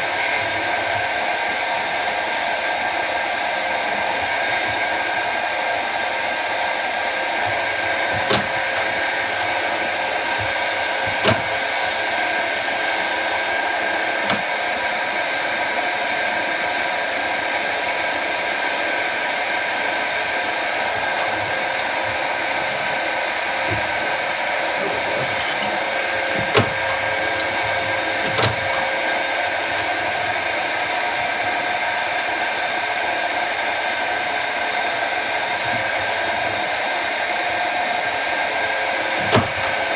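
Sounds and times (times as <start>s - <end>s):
lathe whirring hum: 0.0s - 16.9s, 17.5s - 39.9s.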